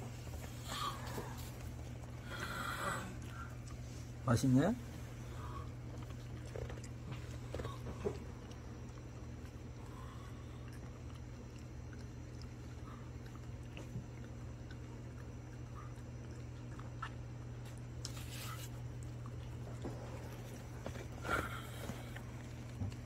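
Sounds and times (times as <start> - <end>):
dog chewing: 0.0 - 23.0
steady low hum: 0.0 - 23.0.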